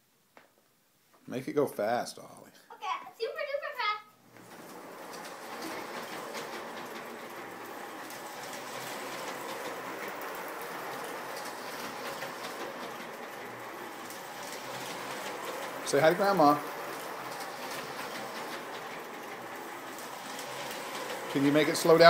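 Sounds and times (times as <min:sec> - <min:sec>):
model train running: 0:02.8 - 0:22.0
wheels clicking on rails: 0:04.2 - 0:22.0.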